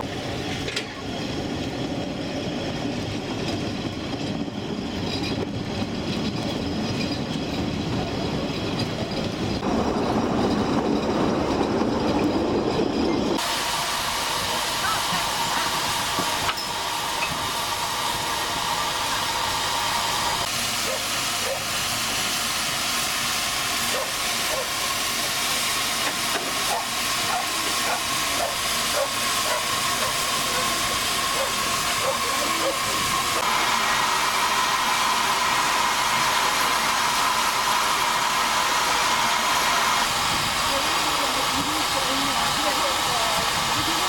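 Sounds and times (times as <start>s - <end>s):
steam hissing: 0.0s - 44.0s.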